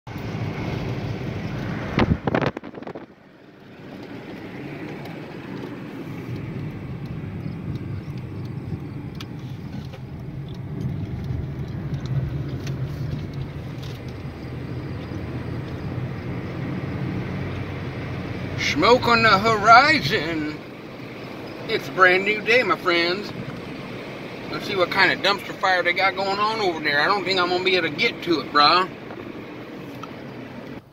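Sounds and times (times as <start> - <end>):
car road and engine noise: 0.0 - 30.9.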